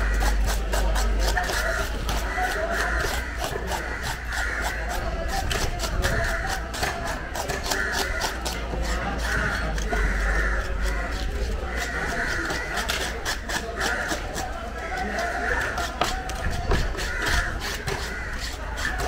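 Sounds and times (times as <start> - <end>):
knife scraping fish scales: 0.0 - 19.0.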